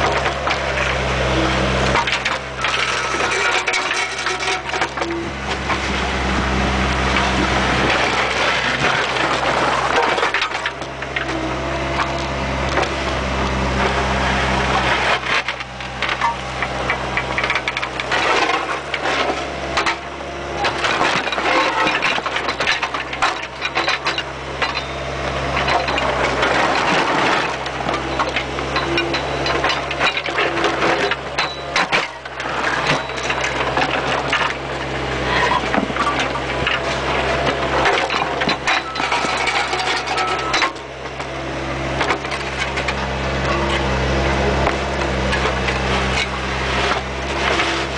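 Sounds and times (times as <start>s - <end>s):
bucket scraping soil and debris: 0.0s - 40.8s, 41.8s - 47.9s
diesel engine running: 0.0s - 47.9s.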